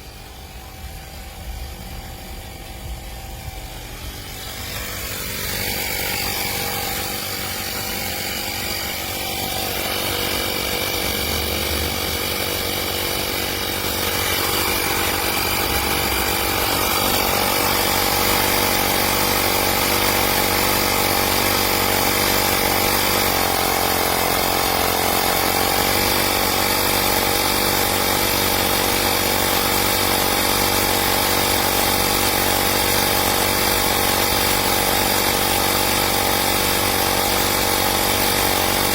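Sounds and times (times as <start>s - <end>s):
electric tyre inflator buzzing: 0.0s - 38.9s.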